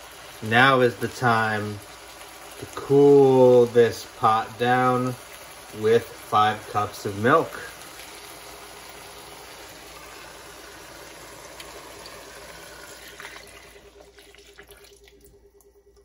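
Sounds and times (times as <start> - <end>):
liquid pouring into a pot: 0.0 - 16.0.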